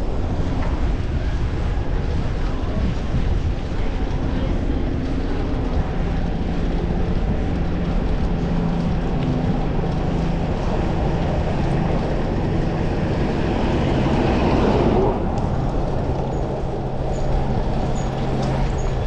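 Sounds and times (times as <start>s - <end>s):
motor vehicle hum: 0.0s - 19.0s
road and traffic rumble: 0.0s - 19.0s.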